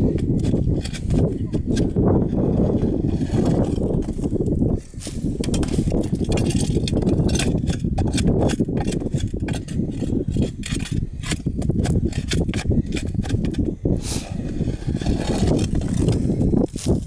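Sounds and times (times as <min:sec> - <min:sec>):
ice scoop scraping ice: 0:00.0 - 0:17.0.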